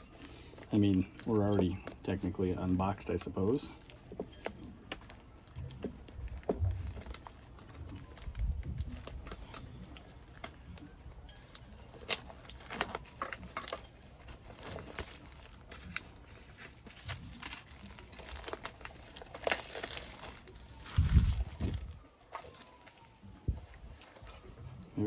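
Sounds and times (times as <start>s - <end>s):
packaging crackling and clicking: 0.0s - 24.6s.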